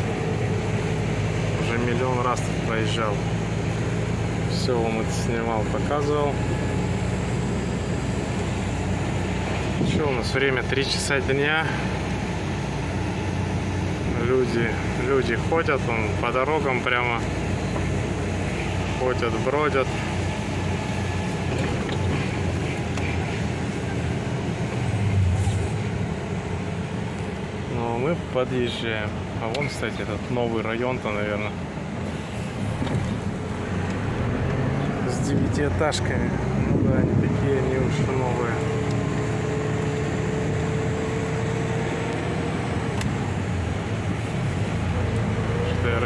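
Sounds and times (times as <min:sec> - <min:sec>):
road noise: 0:00.0 - 0:46.0
truck diesel engine drone: 0:00.0 - 0:46.0.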